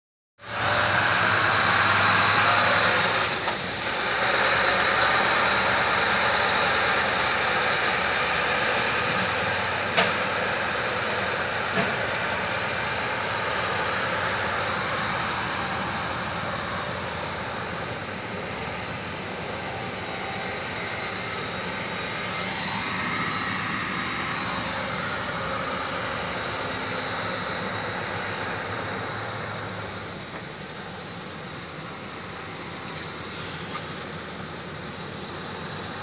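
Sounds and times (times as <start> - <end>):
diesel truck engine running: 0.4 - 36.0.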